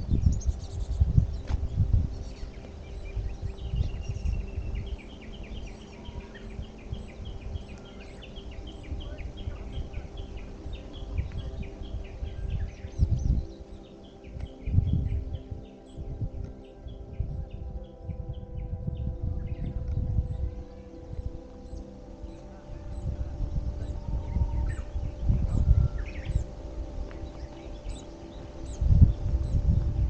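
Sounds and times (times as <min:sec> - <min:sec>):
forest background: 0:00.0 - 0:30.0
songbird repeated notes: 0:00.0 - 0:30.0.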